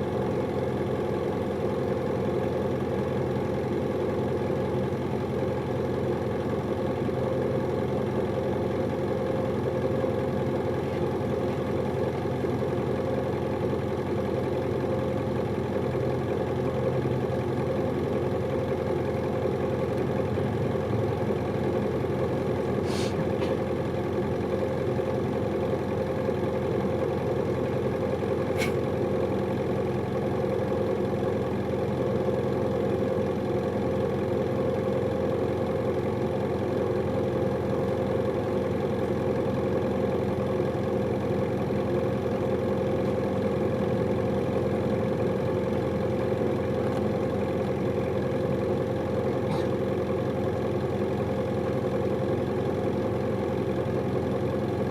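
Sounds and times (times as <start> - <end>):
bus engine running with whine: 0.0 - 54.9.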